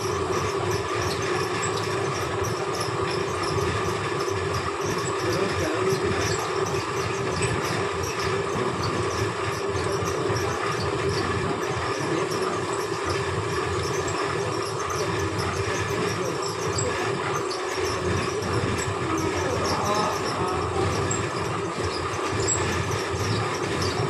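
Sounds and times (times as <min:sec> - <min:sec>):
fabric machine mechanical hum: 0:00.0 - 0:24.0.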